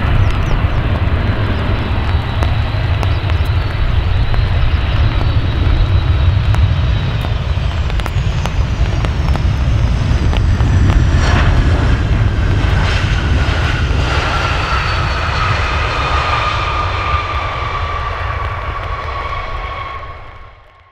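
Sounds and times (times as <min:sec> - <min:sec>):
jet engines rumbling: 0:00.0 - 0:20.9.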